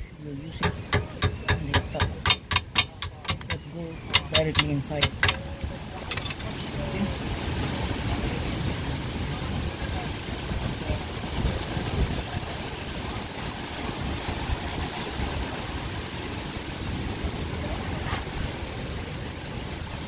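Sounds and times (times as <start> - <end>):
steady outdoor rush: 0.0 - 20.0
wind buffeting microphone: 0.0 - 20.0.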